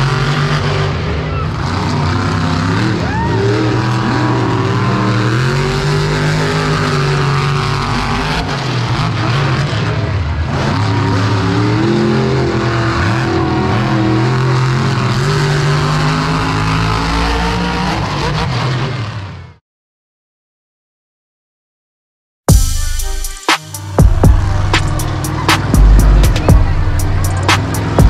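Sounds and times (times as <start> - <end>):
monster truck engine revving: 0.0 - 19.6, 23.8 - 28.0.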